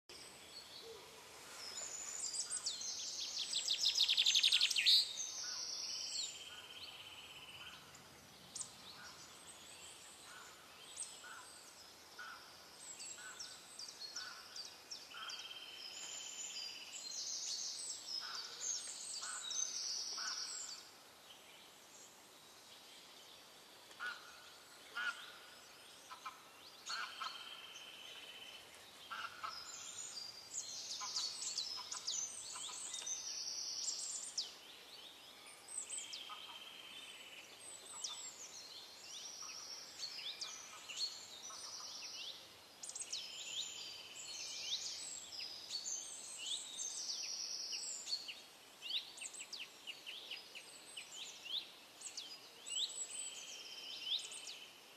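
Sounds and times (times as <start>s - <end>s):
birds chirping and trilling: 0.1s - 54.9s.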